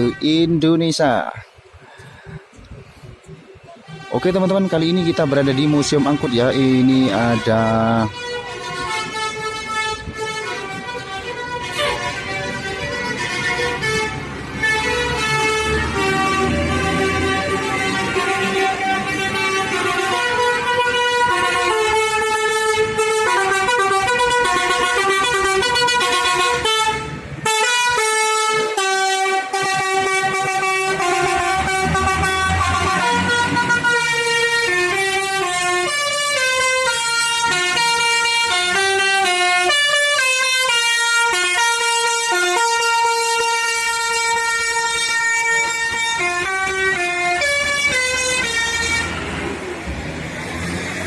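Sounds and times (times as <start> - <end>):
bus horn playing melody: 3.6 - 49.6.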